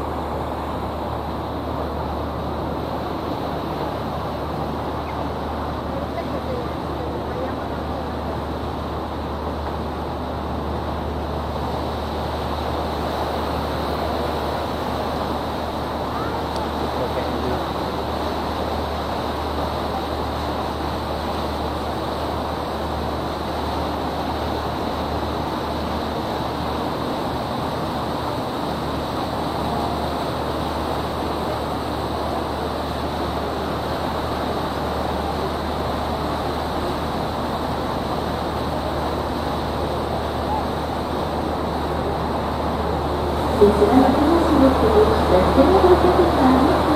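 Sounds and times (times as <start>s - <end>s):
boat engine hum: 0.0s - 46.9s
water rushing: 0.0s - 46.9s.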